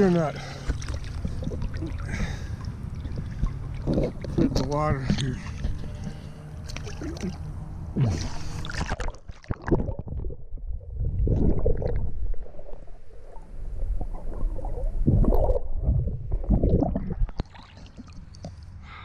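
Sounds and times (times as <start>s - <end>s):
muffled water sloshing and gurgling: 0.0s - 18.9s.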